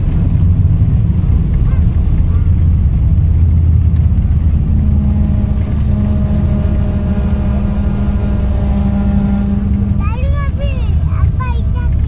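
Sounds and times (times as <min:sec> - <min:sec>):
low engine rumble: 0:00.0 - 0:12.0
steady cabin hum: 0:00.2 - 0:12.0.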